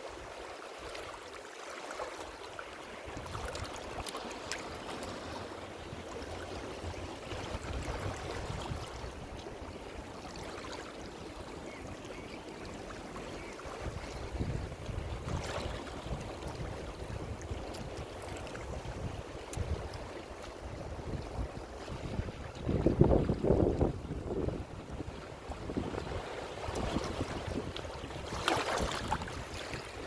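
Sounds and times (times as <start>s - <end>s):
waves washing: 1.8s - 30.0s.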